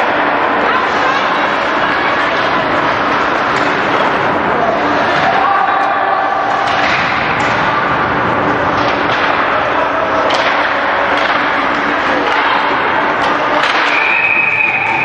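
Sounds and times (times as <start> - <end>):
crowd noise: 0.0 - 15.0
hockey sticks and puck knocking: 1.8 - 5.6, 6.4 - 15.0.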